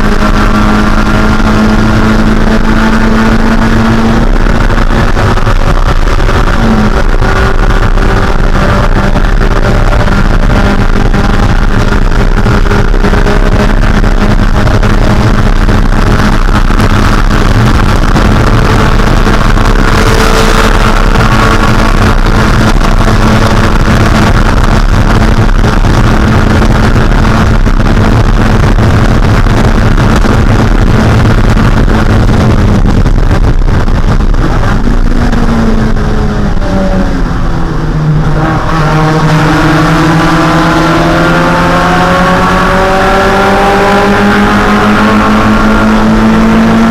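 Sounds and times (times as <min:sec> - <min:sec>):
car engine revving high: 0:00.0 - 0:46.9.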